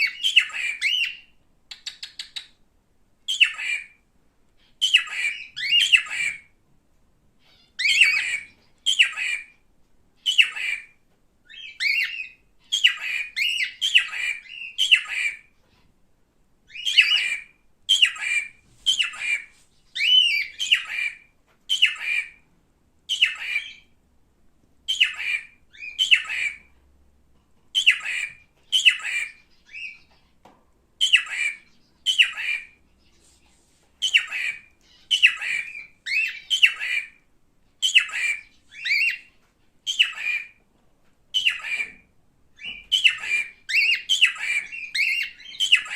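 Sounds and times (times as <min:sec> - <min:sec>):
cockatiel chirping: 0:00.0 - 0:02.6, 0:03.3 - 0:04.0, 0:04.6 - 0:06.6, 0:07.4 - 0:09.6, 0:10.2 - 0:15.9, 0:16.7 - 0:22.4, 0:23.1 - 0:24.0, 0:24.9 - 0:26.8, 0:27.7 - 0:40.6, 0:41.3 - 0:45.9.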